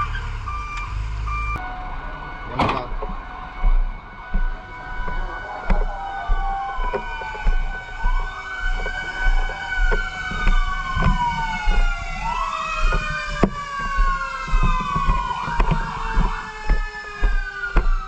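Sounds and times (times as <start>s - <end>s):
fire truck sirens wailing: 0.0s - 18.0s
vehicle rumble: 0.0s - 18.0s
scattered knocks: 2.5s - 18.0s.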